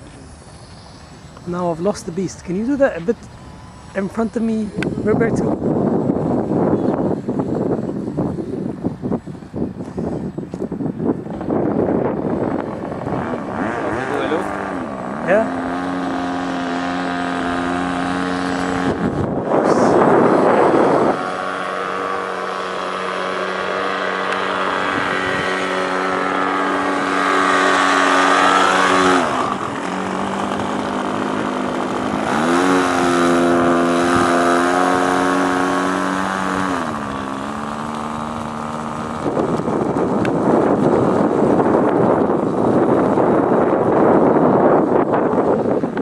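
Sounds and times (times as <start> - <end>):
electric motor and propeller whine: 0.0 - 46.0
wind gusts on microphone: 0.0 - 46.0.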